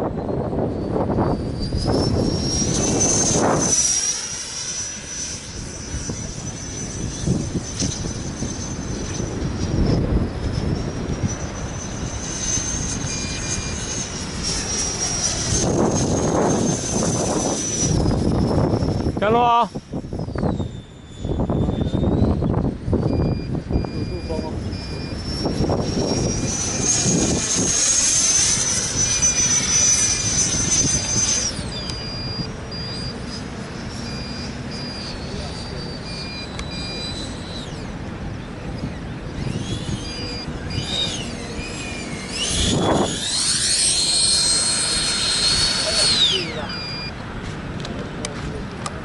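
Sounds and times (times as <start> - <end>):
model jet fan whine: 0.0 - 49.0
wind rumbling on microphone: 0.0 - 49.0.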